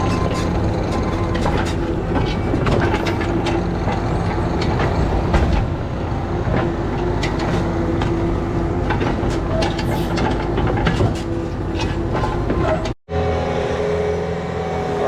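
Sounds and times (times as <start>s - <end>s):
clanks and rattles: 0.0s - 13.0s
diesel machine running: 0.0s - 15.0s.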